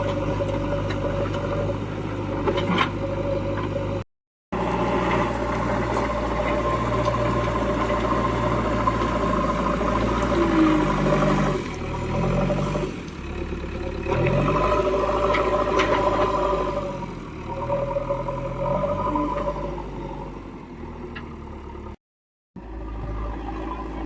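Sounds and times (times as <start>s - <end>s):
diesel engine revving under load: 0.0s - 22.0s.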